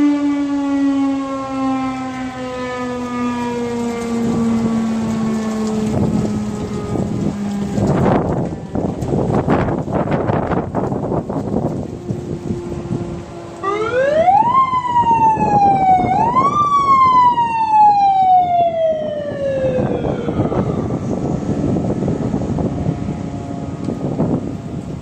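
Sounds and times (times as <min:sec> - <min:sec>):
fire siren wailing: 0:00.0 - 0:25.0.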